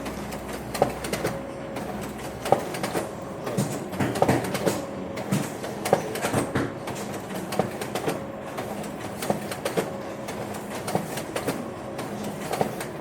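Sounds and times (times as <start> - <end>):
office printer humming: 0.0 - 13.0
printer clicks: 0.0 - 13.0.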